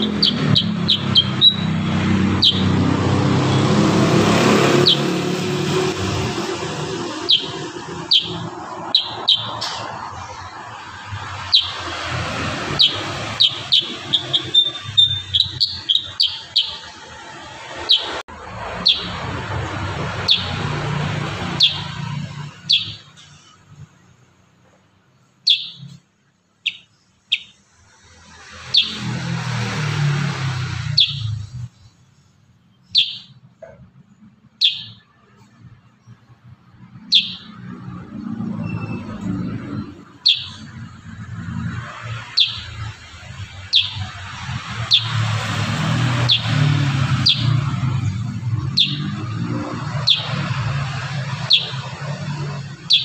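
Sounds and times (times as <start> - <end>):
bird chirping: 0.0 - 53.0
rushing background noise: 0.0 - 53.0.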